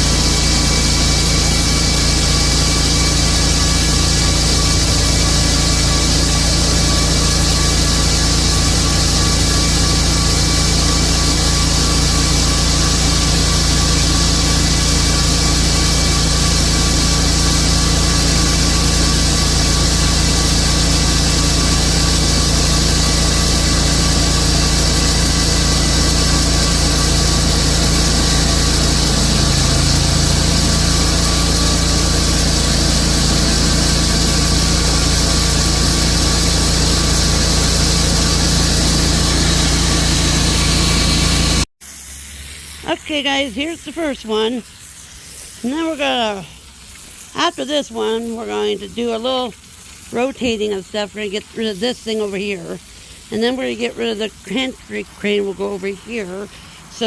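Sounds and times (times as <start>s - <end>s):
sawmill saw cutting log: 0.0s - 41.7s, 42.3s - 57.0s.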